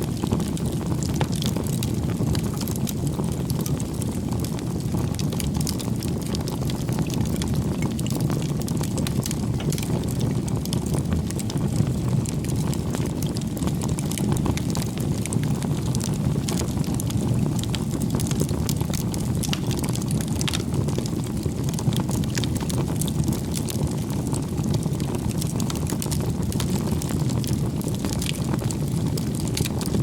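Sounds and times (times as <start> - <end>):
fire crackles and pops: 0.0 - 30.0
low rumble of flames: 0.0 - 30.0.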